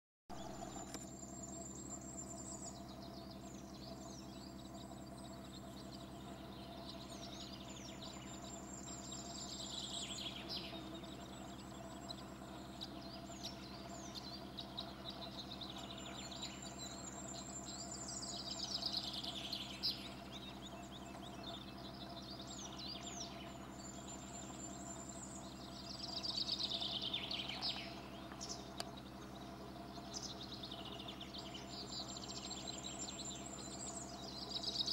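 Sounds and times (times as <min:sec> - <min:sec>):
songbird trilling: 0:00.3 - 0:34.9
steady low hum: 0:00.3 - 0:34.9.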